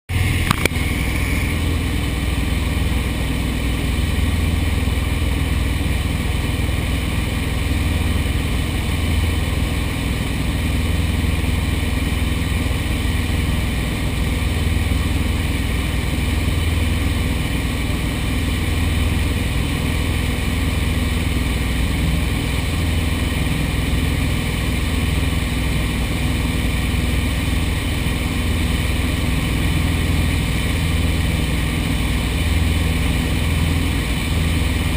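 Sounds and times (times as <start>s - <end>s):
propeller aircraft engine droning: 0.1s - 34.9s.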